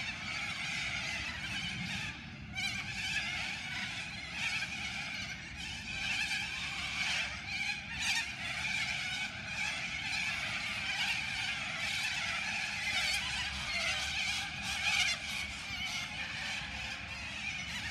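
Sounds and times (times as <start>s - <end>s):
flock of birds screeching: 0.0s - 17.9s.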